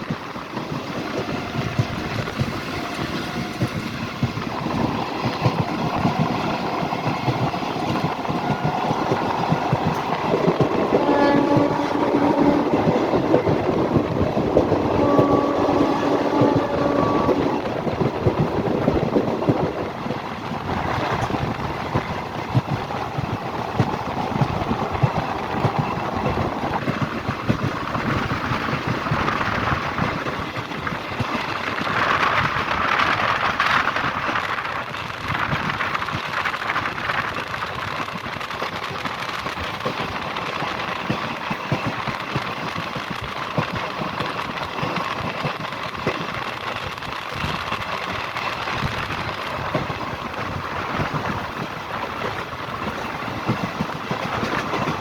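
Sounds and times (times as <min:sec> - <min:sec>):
train wheels clattering on track: 0:00.0 - 0:55.0
wind and rain rushing: 0:00.0 - 0:55.0.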